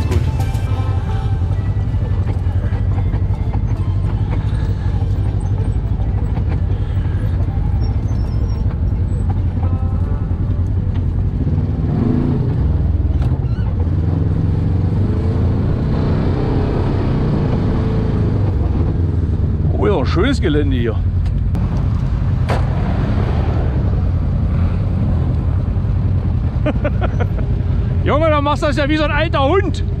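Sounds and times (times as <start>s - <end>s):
engine running at low speed: 0.0s - 30.0s.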